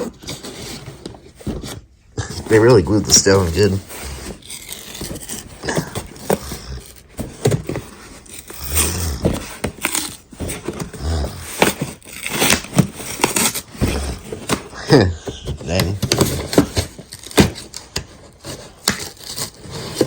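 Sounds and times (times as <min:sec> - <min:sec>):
cardboard clicks and crackles: 0:00.0 - 0:20.0
cardboard scraping and rubbing: 0:00.0 - 0:20.0.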